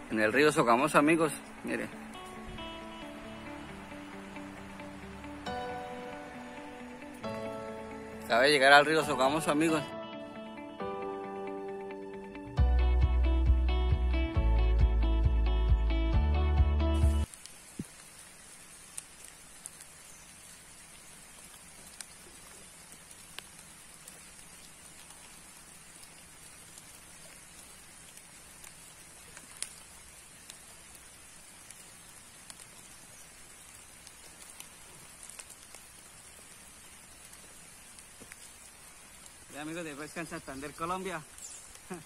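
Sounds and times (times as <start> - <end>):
raindrop ticks: 0.0 - 9.7, 17.2 - 42.0
light rain hiss: 0.0 - 12.6, 17.0 - 42.0.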